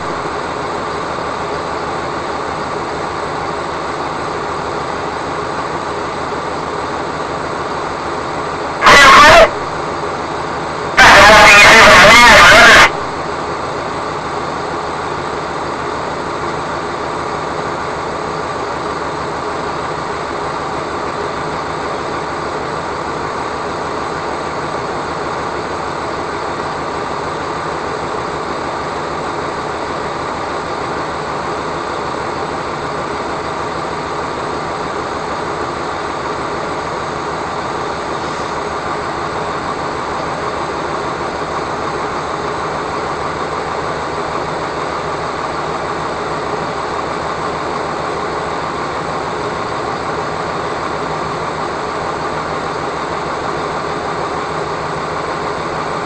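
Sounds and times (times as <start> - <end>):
vehicle engine drone: 0.0 - 56.0.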